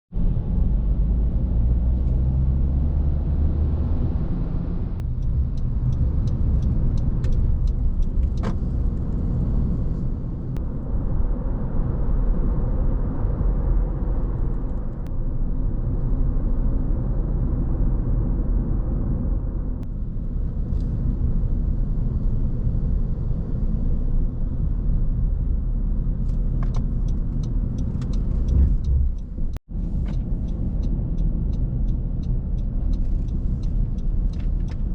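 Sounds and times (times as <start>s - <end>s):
car driving on road: 0.1s - 34.9s.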